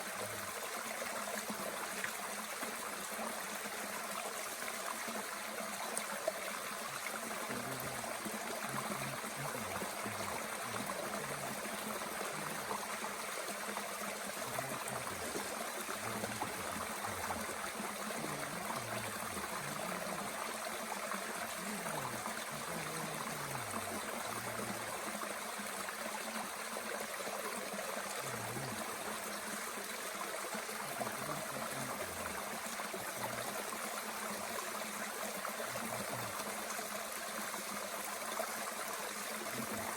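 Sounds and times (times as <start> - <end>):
low water gurgles: 0.0 - 39.9
stream rushing and babbling: 0.0 - 39.9.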